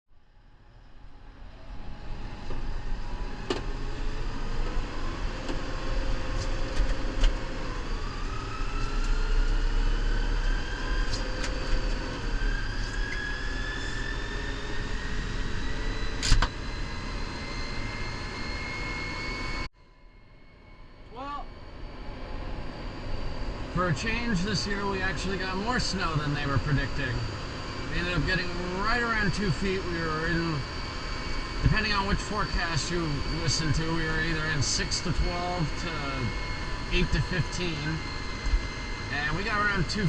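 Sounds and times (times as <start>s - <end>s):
rising engine whine: 0.2s - 40.0s.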